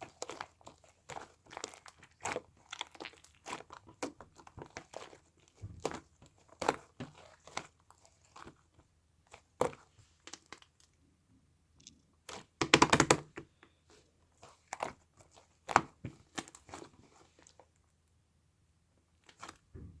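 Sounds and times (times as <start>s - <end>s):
crunching and crinkling: 0.0s - 11.0s, 13.5s - 17.8s, 19.2s - 20.0s.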